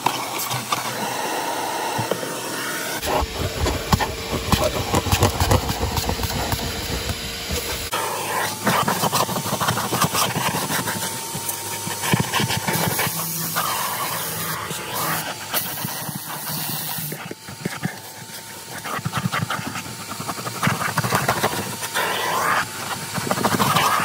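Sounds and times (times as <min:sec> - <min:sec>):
vacuum cleaner whine: 0:00.0 - 0:24.0.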